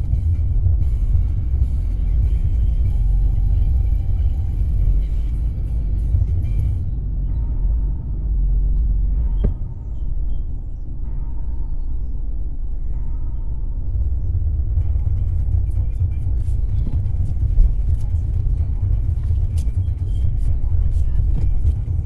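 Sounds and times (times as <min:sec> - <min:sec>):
music: 0:00.0 - 0:22.0
vehicle engine rumbling: 0:00.0 - 0:22.0.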